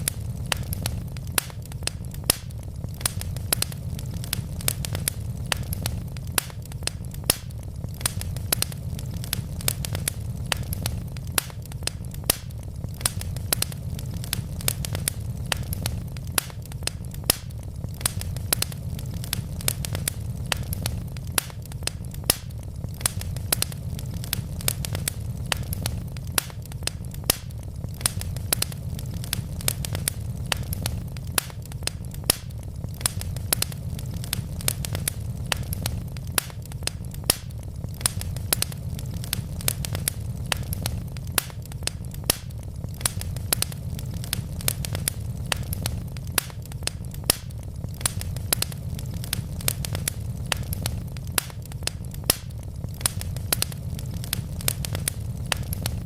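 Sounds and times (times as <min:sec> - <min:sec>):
low fire rumble: 0:00.0 - 0:56.0
wood logs crackling and popping: 0:00.0 - 0:56.0.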